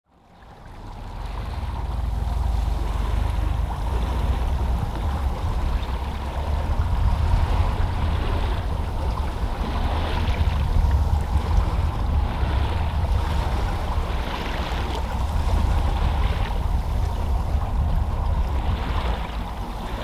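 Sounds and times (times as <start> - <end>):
boat engine rumble: 0.1 - 20.0
water rushing: 0.1 - 20.0
wind buffeting microphone: 0.4 - 20.0.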